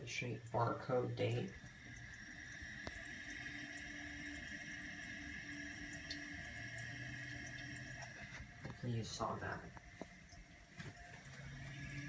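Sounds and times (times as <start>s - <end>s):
faint hum: 0.0s - 12.0s
toilet tank refilling hiss: 0.0s - 12.0s.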